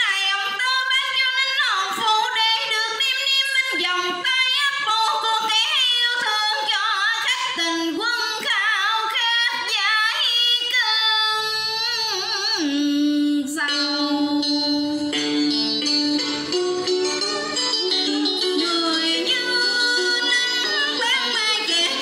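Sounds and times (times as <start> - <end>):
karaoke backing track: 0.0 - 22.0.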